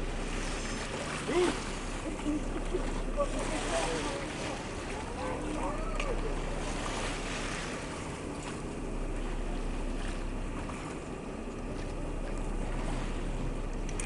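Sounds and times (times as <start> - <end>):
boat engine drone: 0.0 - 14.0
rush of wind and water: 0.0 - 14.0.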